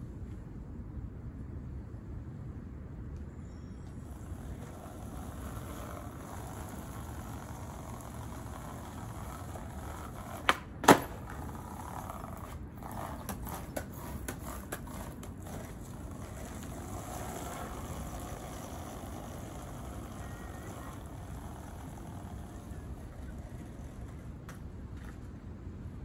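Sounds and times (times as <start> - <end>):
skateboard cracks on pavement: 4.0 - 25.2
skateboard clicks and clatters: 4.0 - 25.3.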